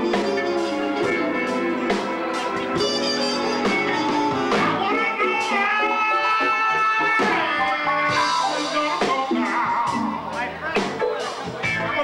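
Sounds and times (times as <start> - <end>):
lead instrument long bending notes: 0.0 - 10.6
soul band playing: 0.0 - 12.0.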